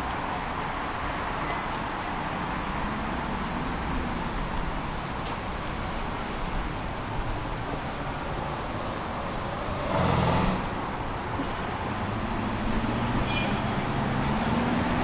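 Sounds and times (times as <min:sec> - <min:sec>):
tram rolling rumble: 0:00.0 - 0:15.0.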